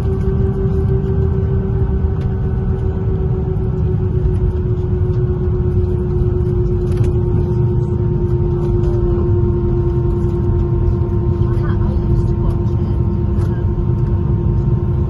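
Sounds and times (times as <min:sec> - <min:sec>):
airplane cabin engine hum: 0:00.0 - 0:15.0.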